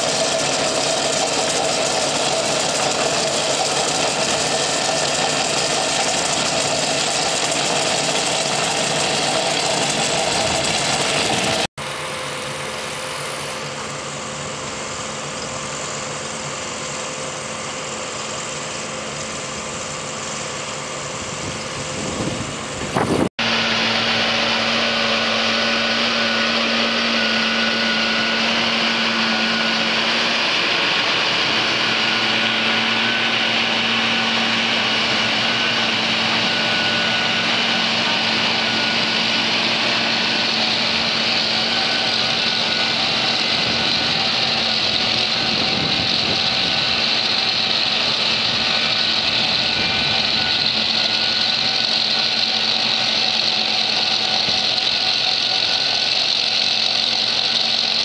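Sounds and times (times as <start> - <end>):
trencher engine running: 0.0 - 58.0.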